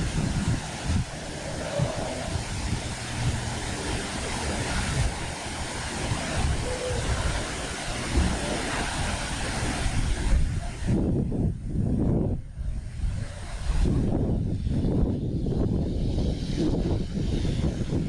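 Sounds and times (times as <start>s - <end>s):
steady rushing hiss: 0.0s - 18.0s
wind buffeting microphone: 0.0s - 18.0s.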